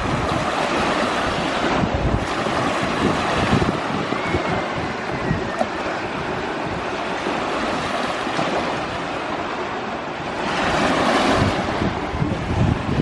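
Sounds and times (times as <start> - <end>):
wind buffeting microphone: 0.0 - 9.6, 10.2 - 13.0
sea waves washing on shore: 0.0 - 13.0.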